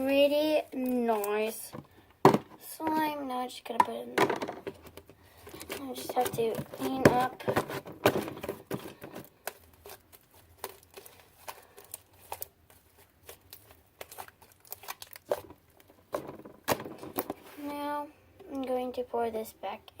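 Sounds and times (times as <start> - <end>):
plastic containers clicking and crinkling: 0.8 - 3.1, 3.7 - 17.6.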